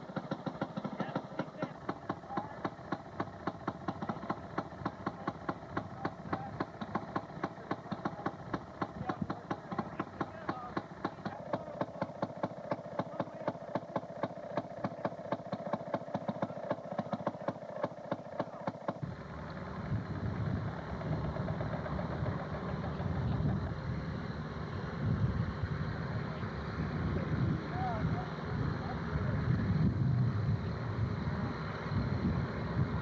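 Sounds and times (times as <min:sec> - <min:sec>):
two-stroke engine popping exhaust: 0:00.0 - 0:33.0
steady low rumble: 0:01.0 - 0:33.0.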